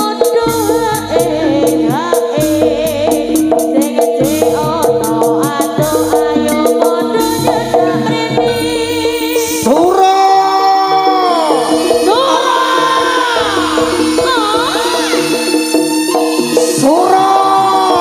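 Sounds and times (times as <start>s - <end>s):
pulsing low drum: 0.1s - 18.0s
struck bronze gamelan notes: 0.5s - 18.0s
wavering high melody: 2.9s - 18.0s.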